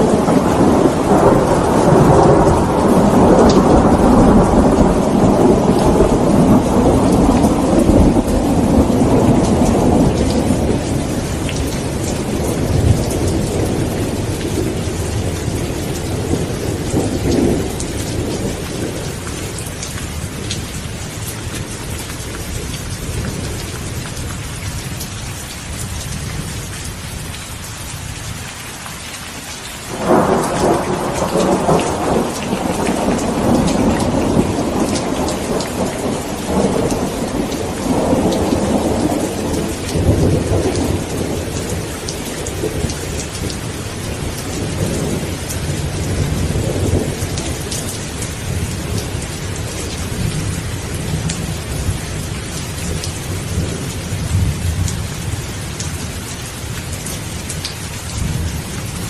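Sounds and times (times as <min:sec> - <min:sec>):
thunder rolling and rumbling: 0:00.0 - 0:25.0, 0:29.9 - 0:56.2
heavy rain: 0:00.0 - 0:59.0.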